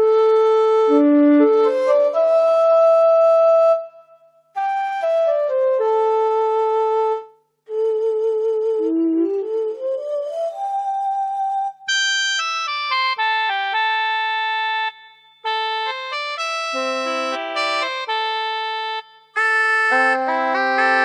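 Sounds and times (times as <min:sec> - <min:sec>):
keyboard flute melody: 0:00.0 - 0:21.0.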